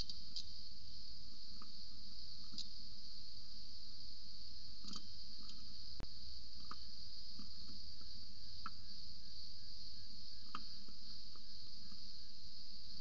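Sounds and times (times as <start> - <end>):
high-pitched insect chorus drone: 0.0 - 13.0.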